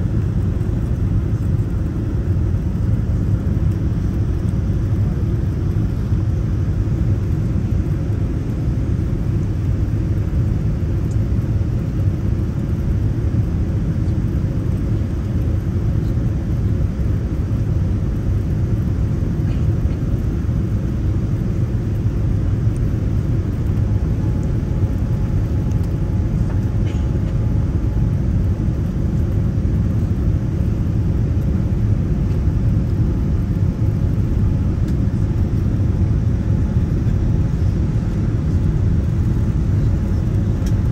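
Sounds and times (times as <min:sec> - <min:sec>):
airliner cabin rumble: 0:00.0 - 0:40.9
faint steady hum: 0:00.0 - 0:40.9.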